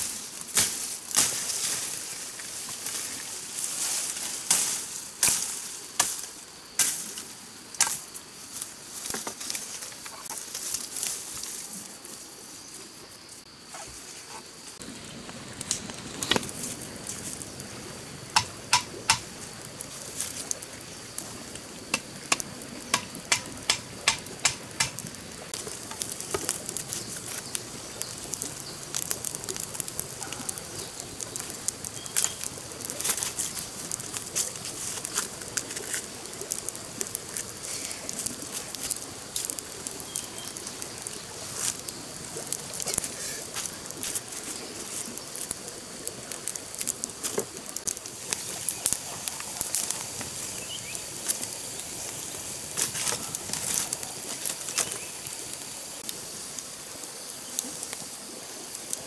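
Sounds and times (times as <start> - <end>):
campfire crackling and popping: 0.0 - 12.3, 14.6 - 59.0.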